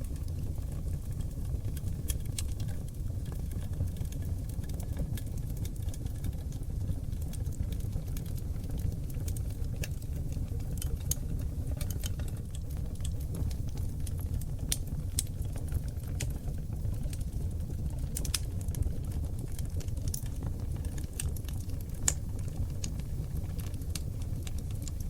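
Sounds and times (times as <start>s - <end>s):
fire crackling and popping: 0.0s - 25.0s
flames rumbling: 0.0s - 25.0s.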